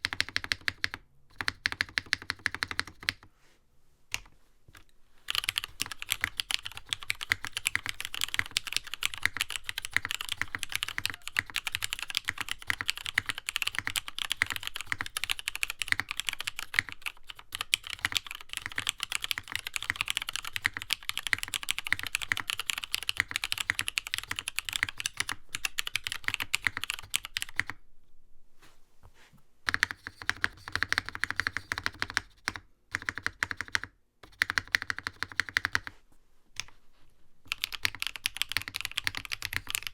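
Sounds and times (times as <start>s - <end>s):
mechanical keyboard typing: 0.0s - 3.3s, 5.3s - 27.8s, 29.7s - 35.9s, 37.5s - 39.9s.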